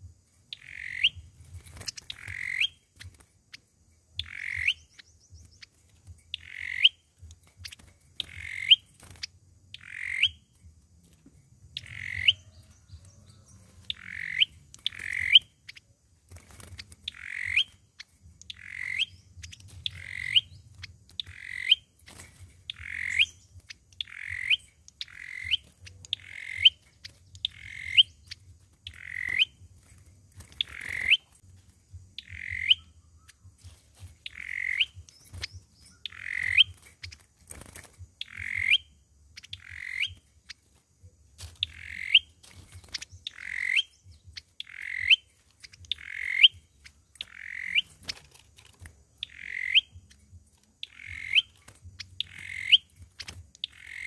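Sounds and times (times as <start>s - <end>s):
sunbird calling: 0.0s - 54.0s.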